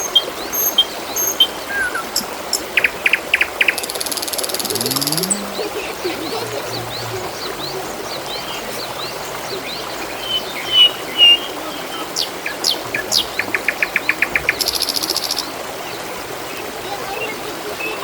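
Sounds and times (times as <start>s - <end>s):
small birds calling: 0.0s - 18.0s
water trickling: 0.0s - 18.0s.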